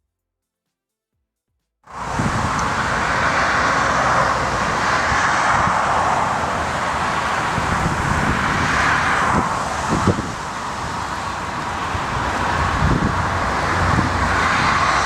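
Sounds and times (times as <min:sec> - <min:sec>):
jet engines roaring: 0:01.9 - 0:15.0
wind buffeting microphone: 0:01.9 - 0:15.0.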